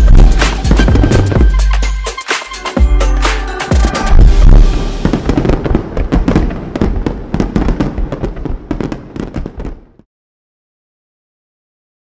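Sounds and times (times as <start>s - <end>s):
fireworks crackling and popping: 0.0s - 10.1s.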